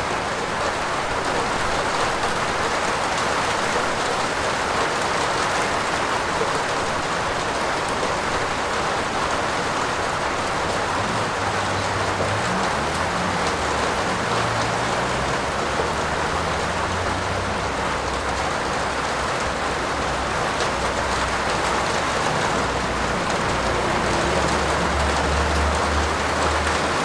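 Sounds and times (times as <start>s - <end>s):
heavy rain on a roof: 0.0s - 27.0s.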